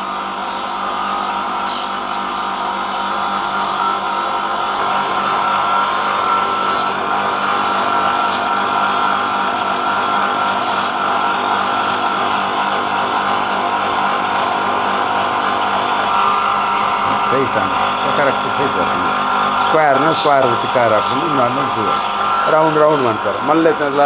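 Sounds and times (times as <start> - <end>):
bench grinding wheel whining: 0.0 - 24.0.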